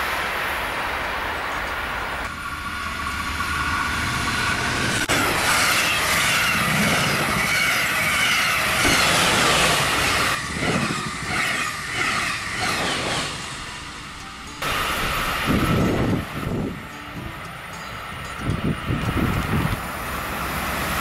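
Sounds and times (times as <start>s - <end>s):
train wheels rushing on rail: 0.0s - 21.0s.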